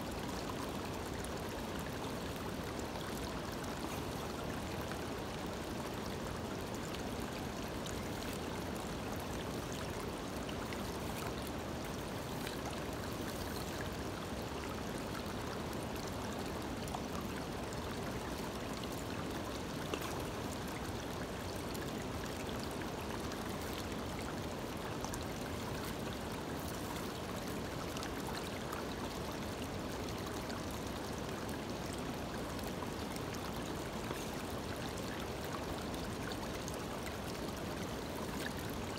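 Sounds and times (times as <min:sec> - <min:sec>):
creek water running over stones: 0:00.0 - 0:38.9.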